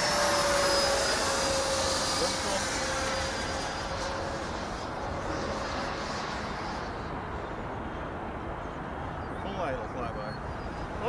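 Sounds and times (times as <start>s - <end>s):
electric ducted fan whining: 0.0s - 11.0s
steady low rush: 0.0s - 11.0s.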